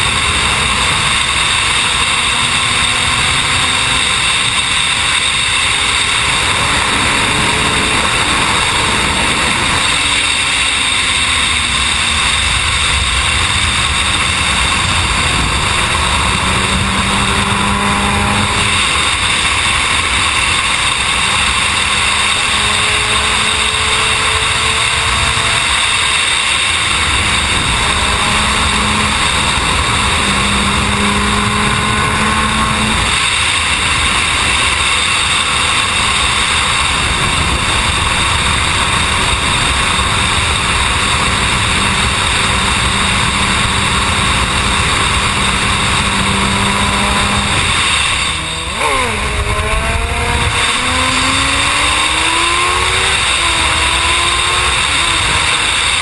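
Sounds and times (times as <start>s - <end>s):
motorcycle engine: 0.0s - 56.0s
wind and road noise: 0.0s - 56.0s.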